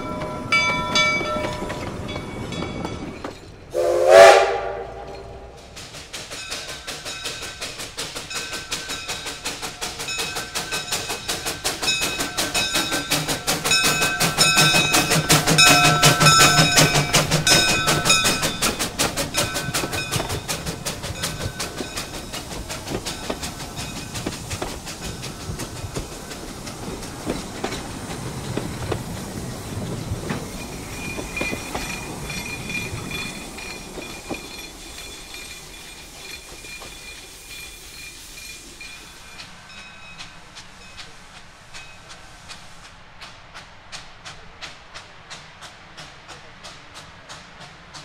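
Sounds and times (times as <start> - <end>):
train wheels clicking: 0.0 - 48.0.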